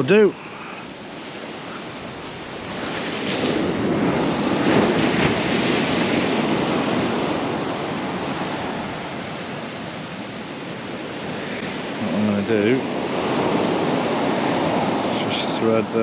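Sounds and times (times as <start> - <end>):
surf breaking on beach: 0.0 - 16.0.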